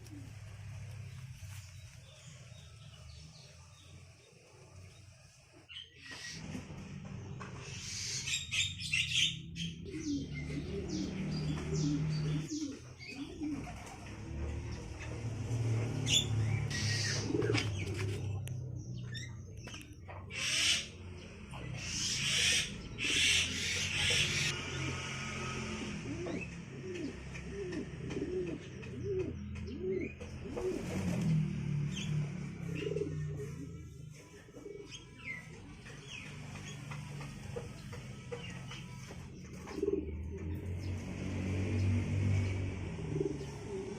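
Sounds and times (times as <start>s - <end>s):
pigeons cooing: 0.0s - 24.6s, 25.5s - 43.9s.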